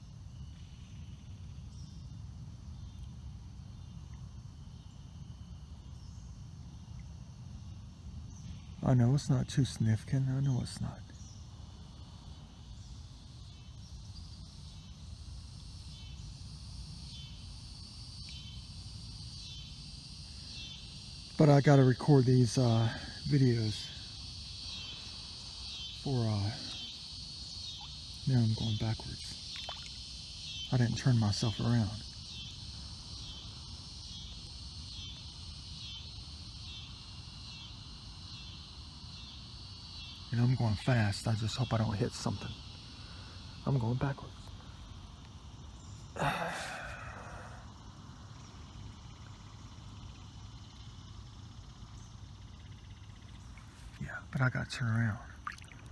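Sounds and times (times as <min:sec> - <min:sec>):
crickets trilling: 0:00.0 - 0:55.9
insects chirring: 0:00.0 - 0:55.9.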